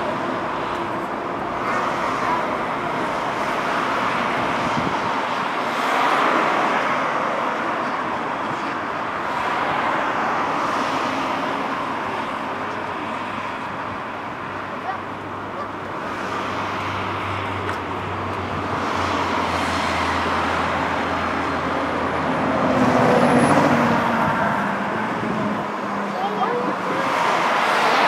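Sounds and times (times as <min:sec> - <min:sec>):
motorway traffic rushing: 0:00.0 - 0:28.0.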